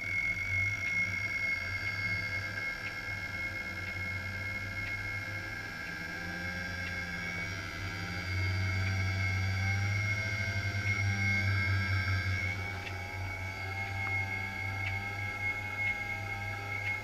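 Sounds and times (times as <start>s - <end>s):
electrical hum: 0.0s - 17.0s
thin high whine: 0.0s - 17.0s.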